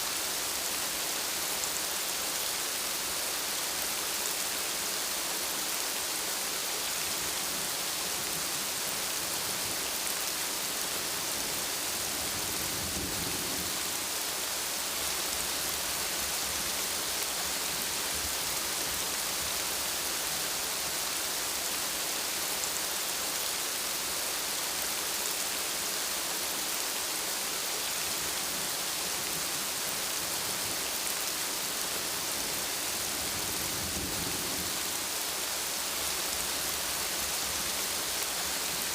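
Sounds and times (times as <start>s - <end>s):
heavy rainfall: 0.0s - 38.9s.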